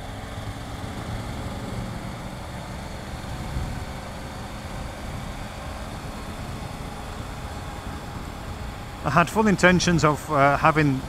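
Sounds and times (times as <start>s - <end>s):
wind rushing over microphone: 0.0s - 10.1s
motorcycle engine running: 0.0s - 11.0s.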